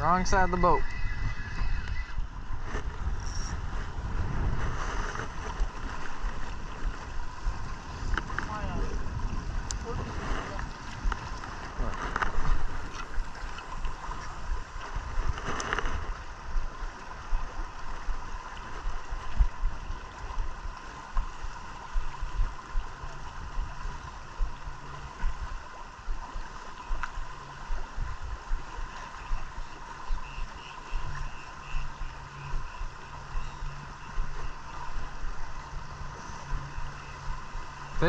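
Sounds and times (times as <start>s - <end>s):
faint steady hum: 0.0s - 38.0s
wind buffeting microphone: 0.0s - 38.0s
water slapping against hull: 0.4s - 38.0s.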